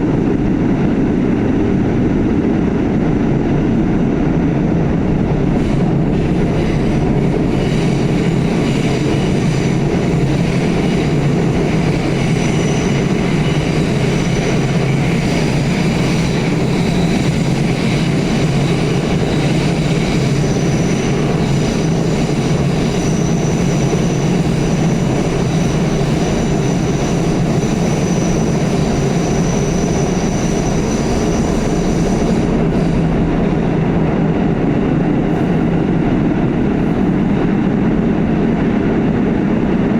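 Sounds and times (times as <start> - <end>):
rumble of train wheels on rail: 0.0 - 39.9.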